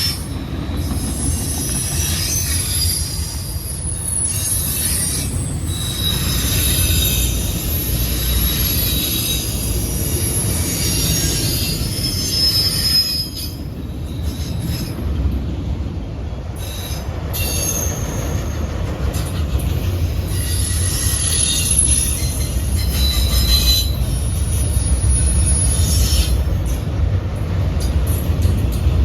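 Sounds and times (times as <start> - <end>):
high-pitched wheel squeal: 0.0 - 15.0, 16.6 - 26.5
train wheels rumbling on rail: 0.0 - 29.0.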